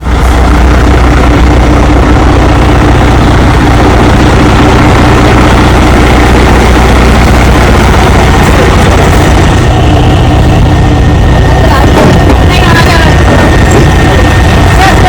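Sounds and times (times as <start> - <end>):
heavy vehicle engine droning: 0.0 - 15.0.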